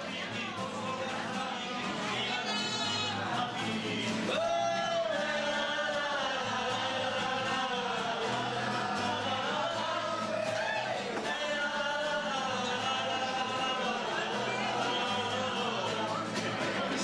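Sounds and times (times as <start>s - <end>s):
group singing: 0.0s - 17.0s.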